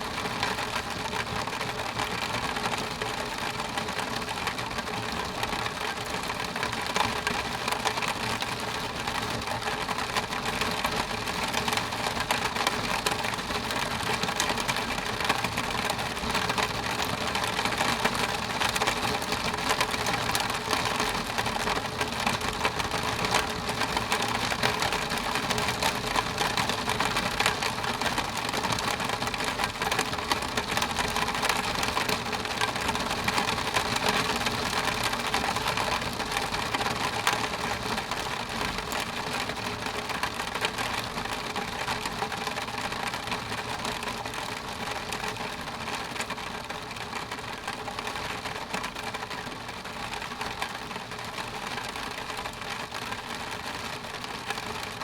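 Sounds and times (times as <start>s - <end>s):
rain on window glass: 0.0s - 55.0s.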